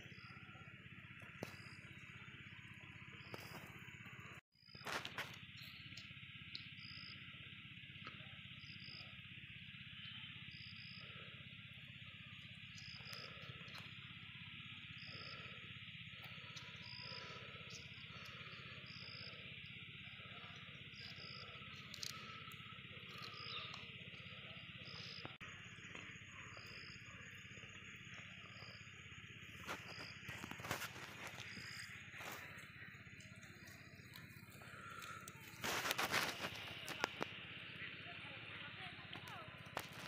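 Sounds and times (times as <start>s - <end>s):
insect chorus: 0.0s - 40.0s.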